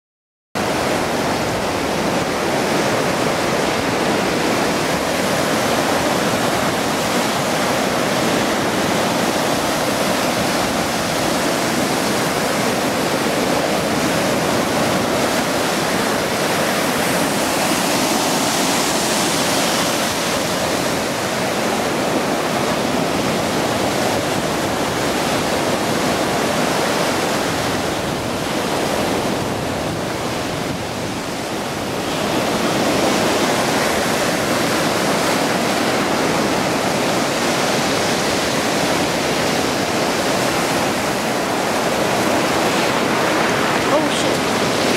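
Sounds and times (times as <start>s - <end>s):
waves washing up stony beach: 0.6s - 44.9s.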